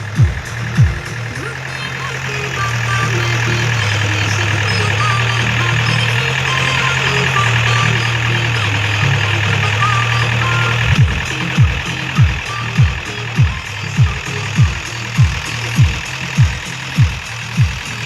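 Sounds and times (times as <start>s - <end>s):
loud music with deep bass: 0.0s - 18.0s.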